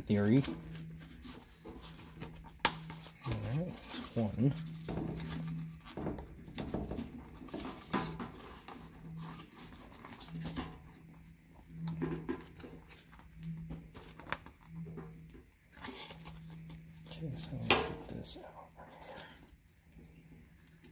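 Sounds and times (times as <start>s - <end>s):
low hum: 0.0s - 20.6s
plastic and fabric rustling: 0.0s - 20.9s.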